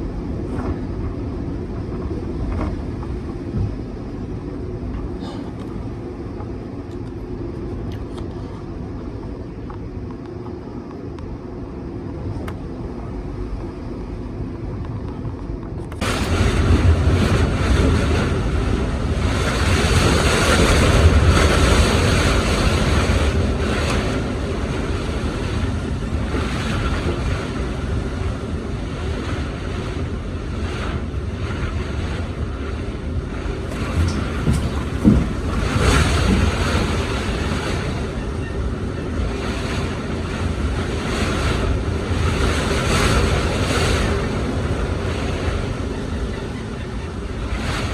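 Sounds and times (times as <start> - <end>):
storm wind gusts: 0.0 - 47.9
wind buffeting microphone: 0.0 - 47.9.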